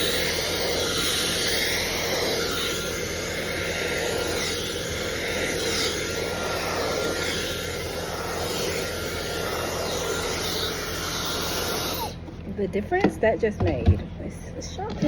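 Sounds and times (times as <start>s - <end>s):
hair dryer blowing air: 0.0s - 12.2s.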